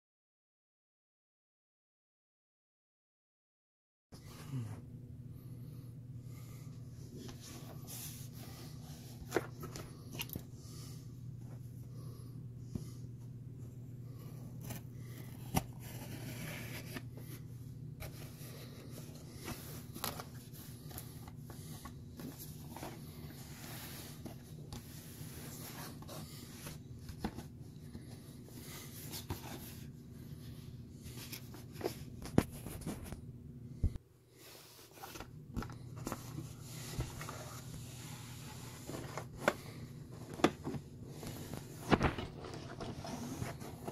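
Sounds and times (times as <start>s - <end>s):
steady low hum: 4.2s - 43.9s.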